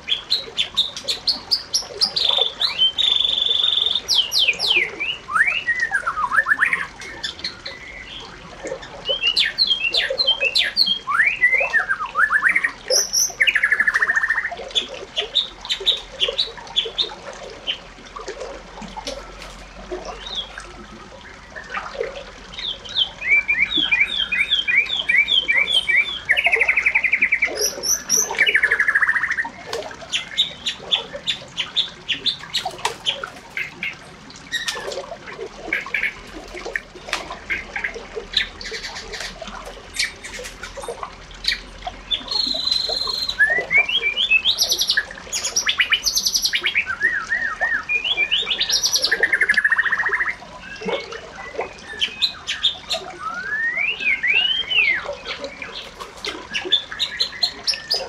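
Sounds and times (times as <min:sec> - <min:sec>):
birds chirping and trilling: 0:00.0 - 0:17.9, 0:18.9 - 0:36.8, 0:37.4 - 0:58.0.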